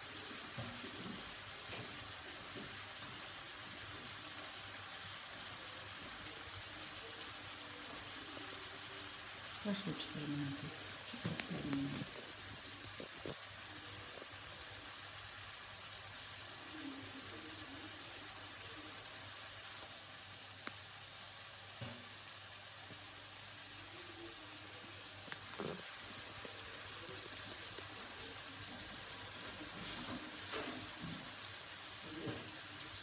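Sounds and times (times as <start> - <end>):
fish frying in a pan: 0.0 - 33.0.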